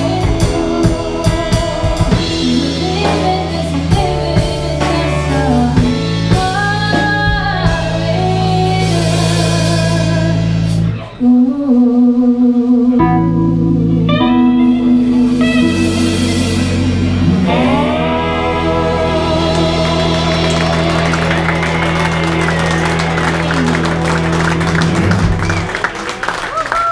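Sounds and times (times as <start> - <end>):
live band playing slow song: 0.0 - 26.9.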